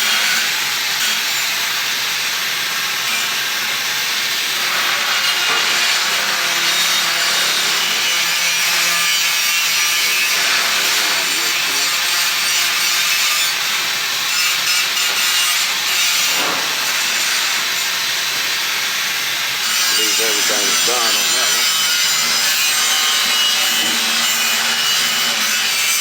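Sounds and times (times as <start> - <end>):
harsh hissing and rasping metalwork: 0.1 - 26.0.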